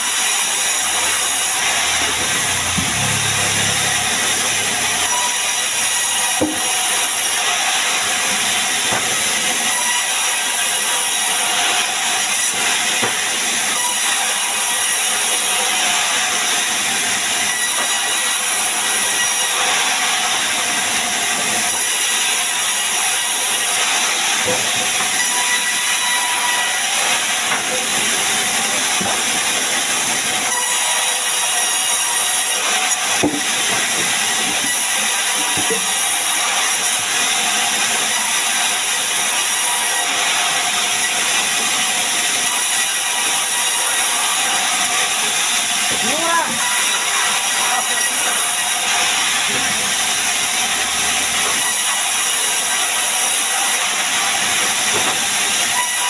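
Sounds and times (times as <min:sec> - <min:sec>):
band saw blade whining: 0:00.0 - 0:56.0.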